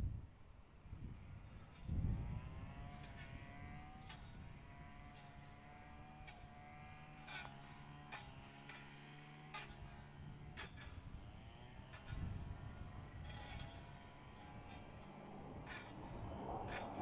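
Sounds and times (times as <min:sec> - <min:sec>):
distant jet engine whine: 0:01.2 - 0:17.0.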